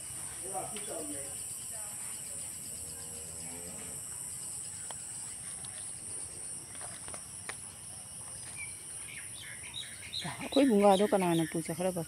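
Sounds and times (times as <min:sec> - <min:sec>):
insects chirping chorus: 0:00.0 - 0:12.0.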